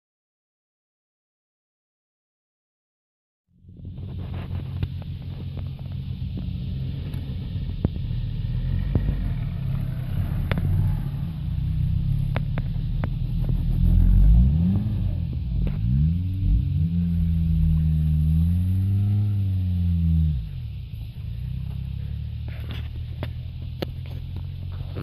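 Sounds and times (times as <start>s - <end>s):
car engine under load: 3.6s - 25.0s.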